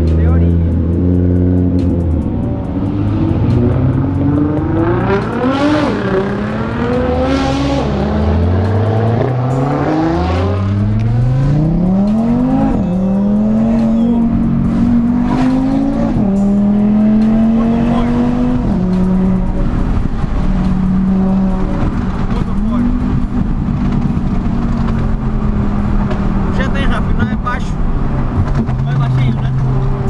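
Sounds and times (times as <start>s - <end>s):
sports car engine accelerating: 0.0s - 30.0s.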